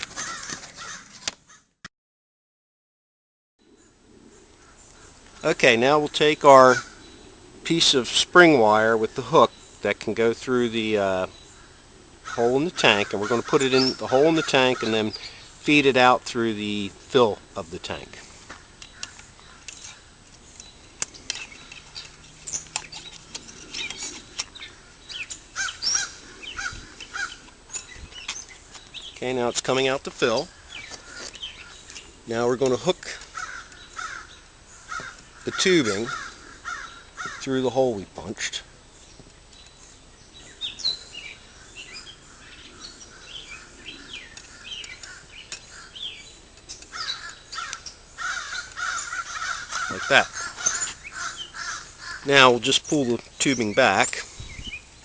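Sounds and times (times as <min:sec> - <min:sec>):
birds chirping: 0:00.0 - 0:01.1, 0:03.6 - 0:55.0.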